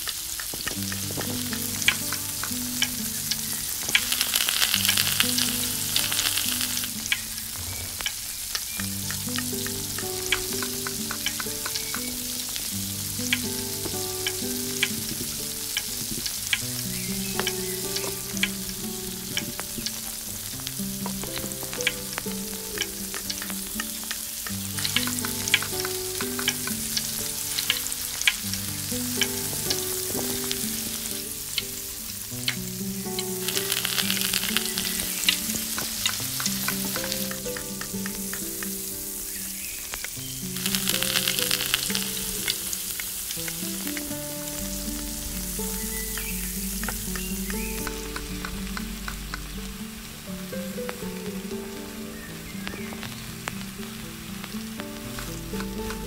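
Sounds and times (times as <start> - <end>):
food sizzling in hot oil: 0.0 - 56.0
instrumental background music: 0.0 - 56.0.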